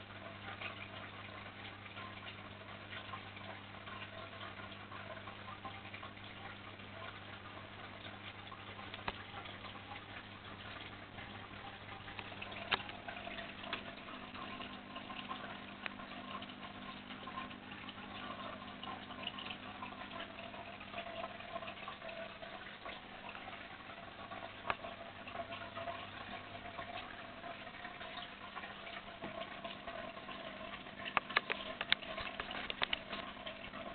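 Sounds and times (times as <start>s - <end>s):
trickling and splashing water: 0.0s - 33.9s.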